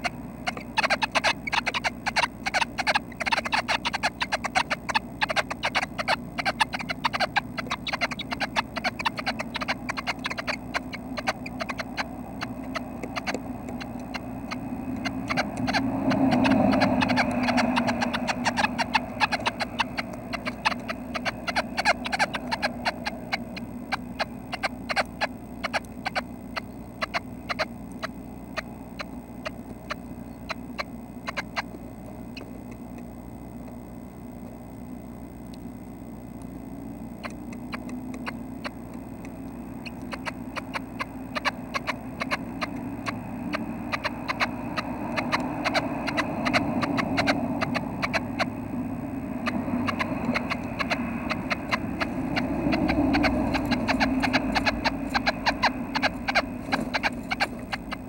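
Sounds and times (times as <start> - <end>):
nestlings scratching in nest box: 0.0 - 33.3, 37.1 - 58.0.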